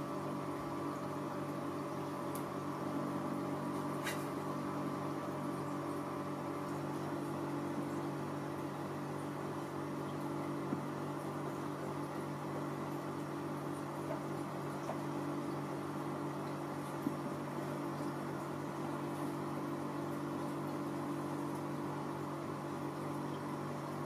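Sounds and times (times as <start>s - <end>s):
household appliance humming: 0.0s - 24.0s.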